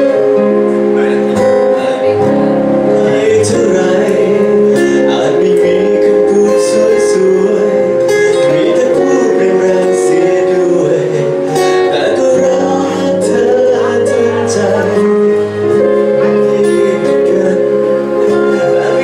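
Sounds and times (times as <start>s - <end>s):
person singing: 0.0s - 19.0s
plucked guitar: 0.0s - 19.0s
sustained chords: 0.0s - 19.0s.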